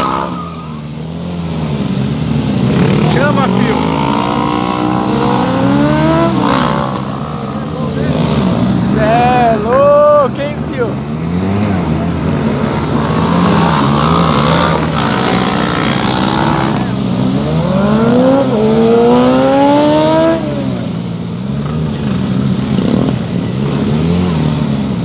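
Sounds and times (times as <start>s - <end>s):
engine with wavering pitch: 0.0s - 25.0s
motorcycle engine accelerating hard: 0.0s - 25.0s.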